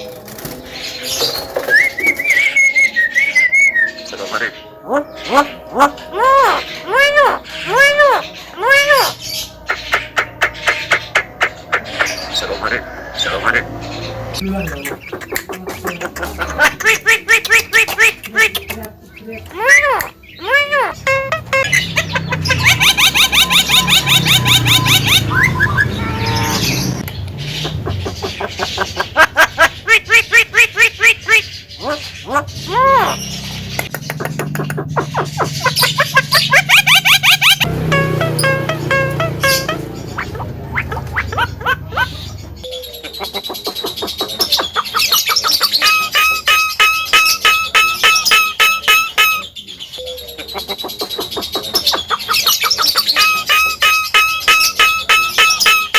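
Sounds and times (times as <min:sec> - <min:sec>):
myna bird calling: 0:01.0 - 0:55.9.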